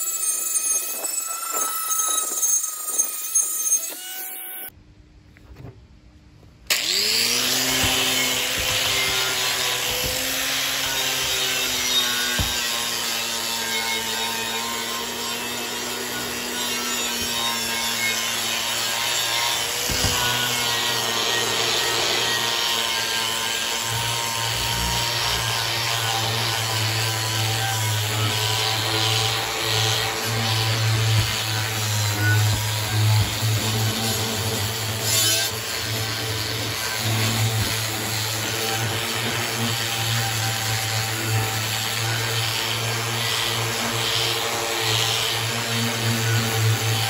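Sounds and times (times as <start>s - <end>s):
angle grinder grinding steel: 0.0s - 4.7s, 6.7s - 47.0s.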